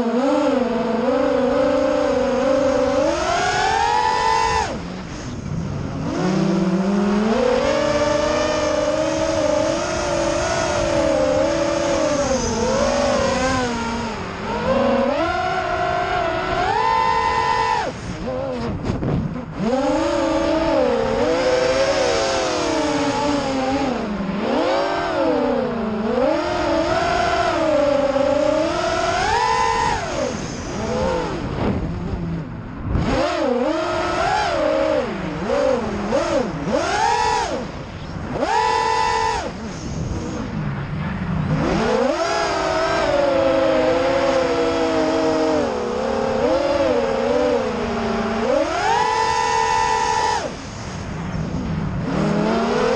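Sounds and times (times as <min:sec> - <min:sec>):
quadcopter motors whining: 0:00.0 - 0:32.4, 0:33.0 - 0:40.6, 0:41.5 - 0:52.9.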